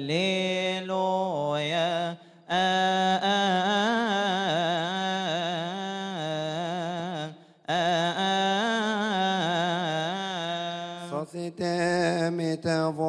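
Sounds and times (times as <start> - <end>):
man chanting a hymn: 0.0 - 13.0.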